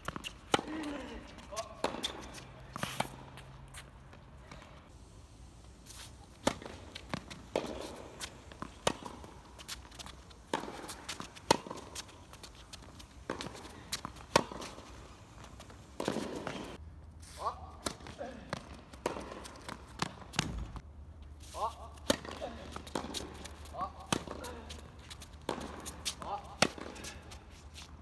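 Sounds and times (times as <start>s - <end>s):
footsteps on court: 0.0s - 4.9s, 5.8s - 28.0s
rackets hitting tennis ball: 0.0s - 4.9s, 6.0s - 16.8s, 17.5s - 20.8s, 21.6s - 27.7s.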